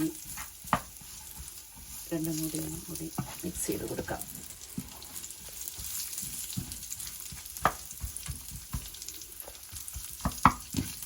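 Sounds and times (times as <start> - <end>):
nuts sizzling in a pan: 0.0 - 11.0
spoon scraping and knocking pan: 0.0 - 11.0.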